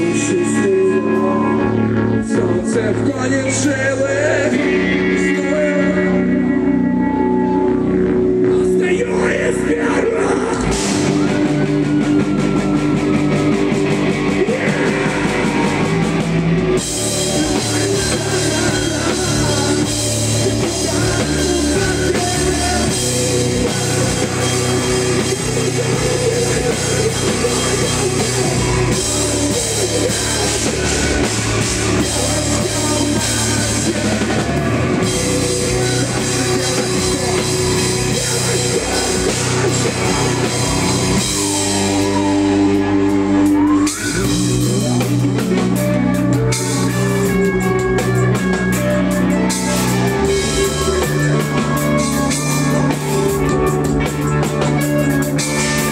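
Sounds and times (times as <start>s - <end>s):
heavy rock band playing: 0.0s - 55.9s.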